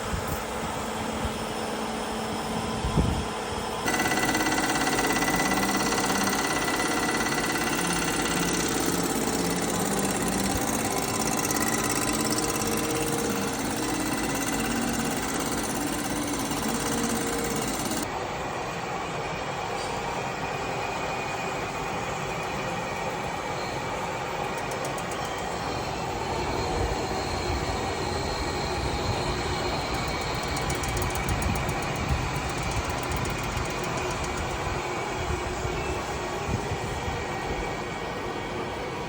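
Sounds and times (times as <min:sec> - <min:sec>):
shop machinery running: 0:00.1 - 0:18.6, 0:19.4 - 0:39.0.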